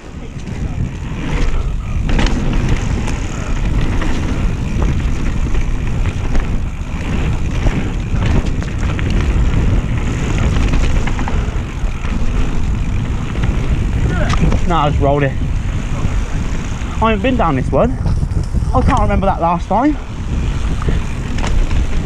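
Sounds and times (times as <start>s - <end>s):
bike knocking and rattling: 0.0s - 22.0s
bike tyres on dirt: 0.0s - 22.0s
wind buffeting microphone: 0.0s - 22.0s.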